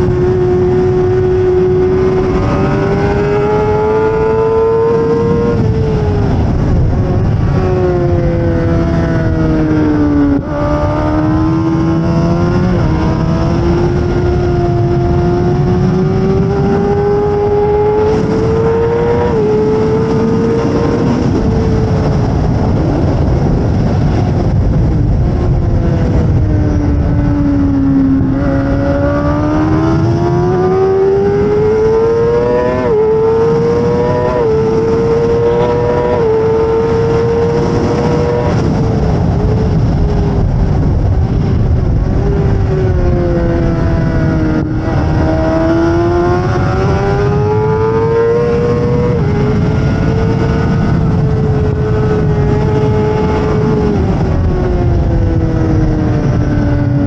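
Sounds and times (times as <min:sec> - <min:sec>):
heavy wind rush: 0:00.0 - 0:57.0
motorcycle engine at high revs: 0:00.0 - 0:57.0.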